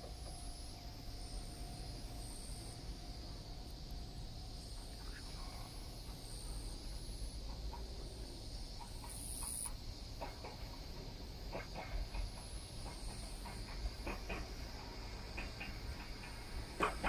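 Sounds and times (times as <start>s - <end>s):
insects chirping in high trills: 0.0s - 17.0s.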